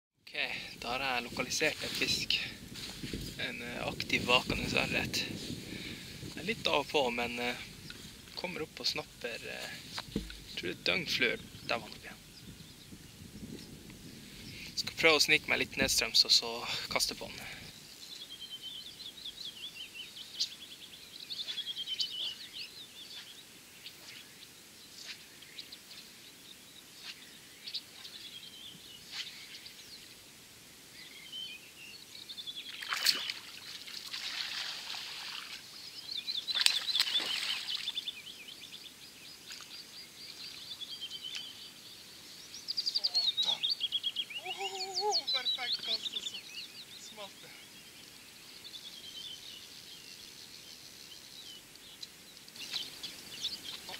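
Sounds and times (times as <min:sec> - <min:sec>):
songbirds chirping: 0:00.2 - 0:53.9.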